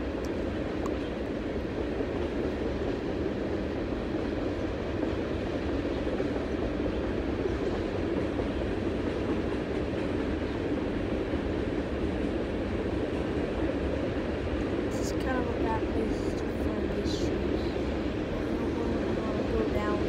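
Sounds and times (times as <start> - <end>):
train rolling past: 0.0 - 20.0.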